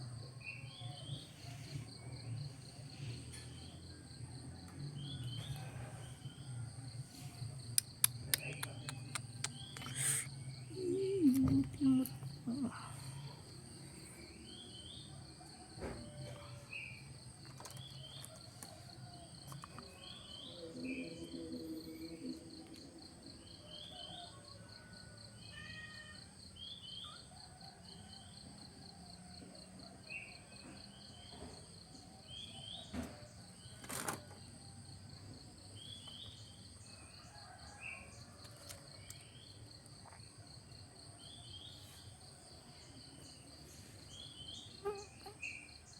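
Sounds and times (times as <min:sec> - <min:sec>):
insect chorus trilling: 0:00.2 - 0:45.9.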